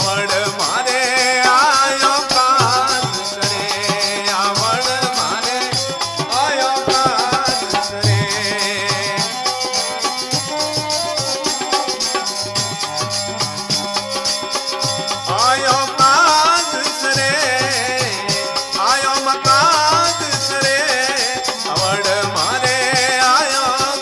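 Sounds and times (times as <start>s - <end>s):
hand drums: 0.0s - 24.0s
jingling rattle percussion: 0.0s - 24.0s.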